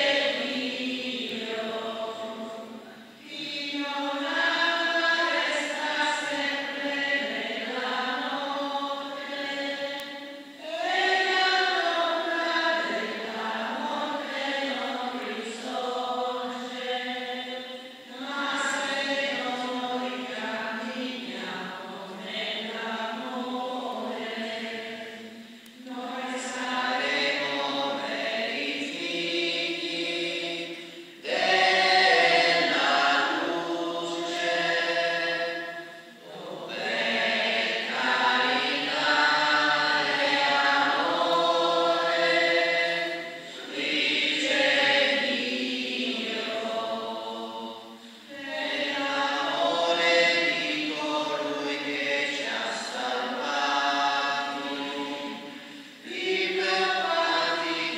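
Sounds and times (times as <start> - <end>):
group singing a hymn: 0.0 - 57.9.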